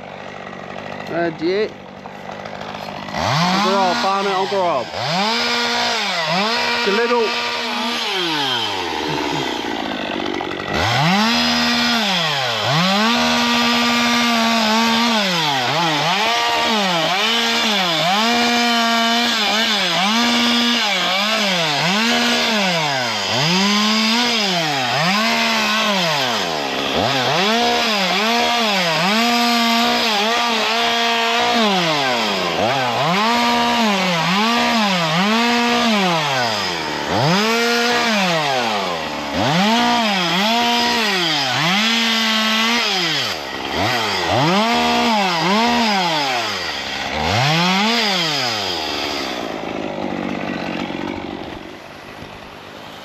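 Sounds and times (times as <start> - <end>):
chainsaw revving: 0.0 - 53.0.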